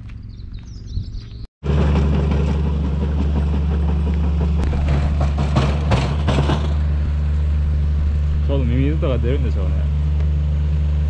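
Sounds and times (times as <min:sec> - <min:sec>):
engine droning: 0:01.6 - 0:11.0.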